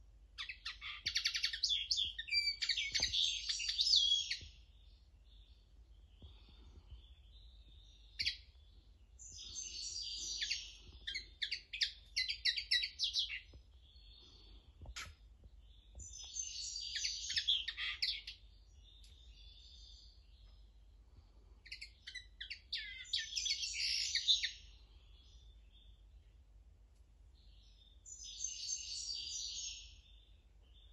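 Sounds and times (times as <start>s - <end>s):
soft bird calls: 0.0s - 26.4s
bird twittering song: 0.0s - 26.6s, 27.3s - 30.9s.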